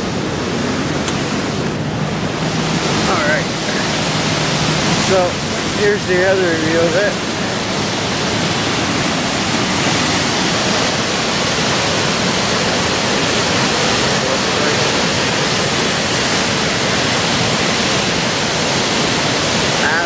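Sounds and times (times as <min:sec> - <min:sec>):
whitewater rushing: 0:00.0 - 0:20.0.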